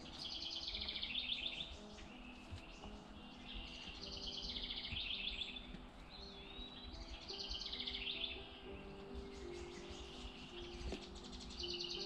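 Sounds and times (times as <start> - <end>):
songbirds trilling: 0.0 - 12.0.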